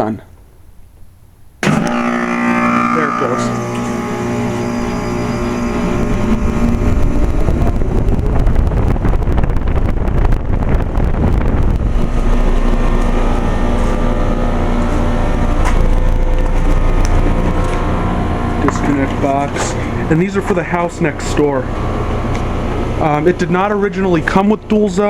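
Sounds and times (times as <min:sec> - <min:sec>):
outdoor fan: 0:00.0 - 0:25.0
heat pump compressor hum: 0:01.4 - 0:25.0.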